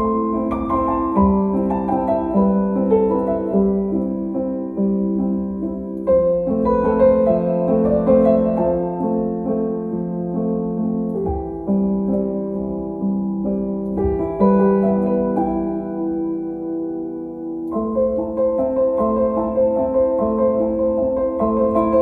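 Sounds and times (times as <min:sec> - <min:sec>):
slow gentle piano melody: 0:00.0 - 0:22.0.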